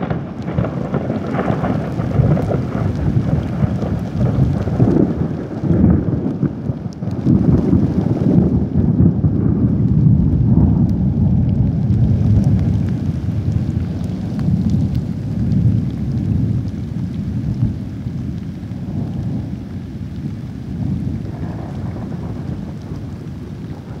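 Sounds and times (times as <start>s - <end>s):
deep continuous rumble: 0.0s - 24.0s
rain pattering on puddle: 0.0s - 24.0s.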